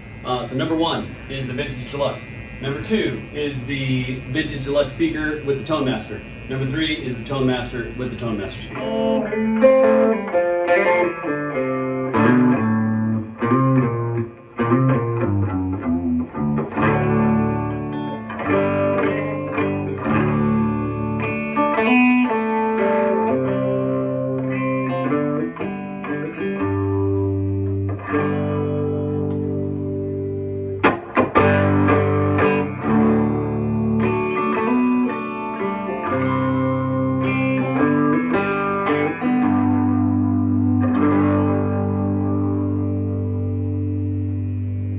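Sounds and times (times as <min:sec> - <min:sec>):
overdriven electric guitar: 0:00.0 - 0:44.9.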